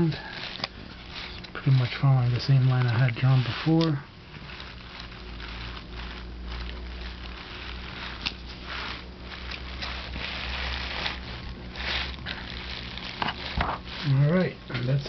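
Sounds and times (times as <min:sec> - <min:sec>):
pick scratching pumpkin rind: 0:00.0 - 0:15.0.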